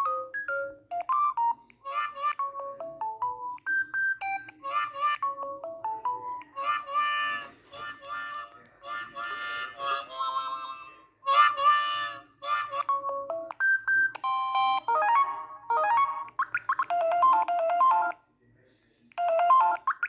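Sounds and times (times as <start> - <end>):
electronic phone ringtone melodies: 0.0 - 18.2, 19.2 - 20.0.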